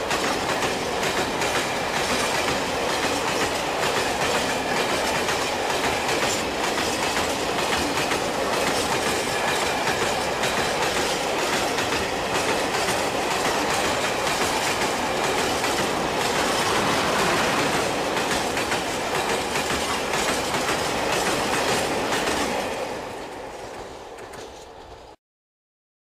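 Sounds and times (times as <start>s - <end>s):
freight train rolling past: 0.0s - 25.2s
wheels clicking over rail joints: 0.0s - 25.2s.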